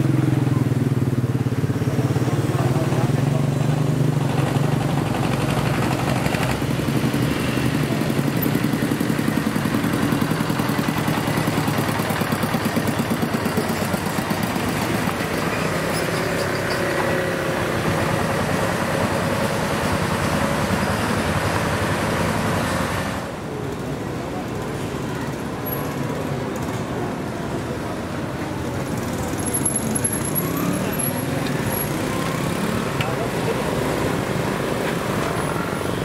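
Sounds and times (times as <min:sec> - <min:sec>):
diesel engines chugging: 0:00.0 - 0:36.0
motorcycle and car traffic: 0:00.0 - 0:36.0.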